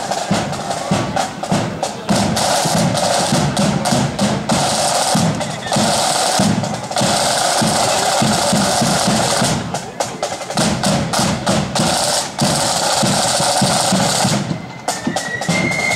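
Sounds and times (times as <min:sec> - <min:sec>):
marching drums: 0:00.0 - 0:15.9
snare rolls: 0:00.0 - 0:15.9.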